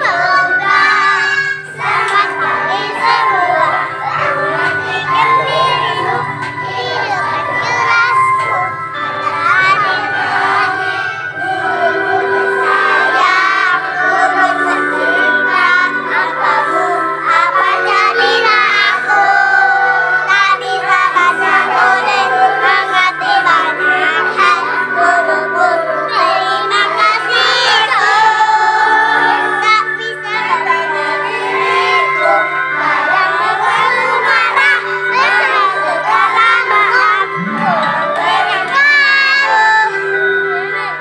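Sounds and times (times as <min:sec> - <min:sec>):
musical accompaniment: 0:00.0 - 0:41.0
young children singing in choir: 0:00.0 - 0:41.0.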